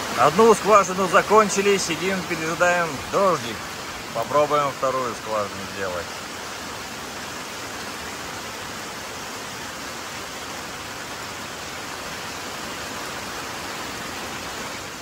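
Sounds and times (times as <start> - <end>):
steady rain pouring: 0.0 - 15.0.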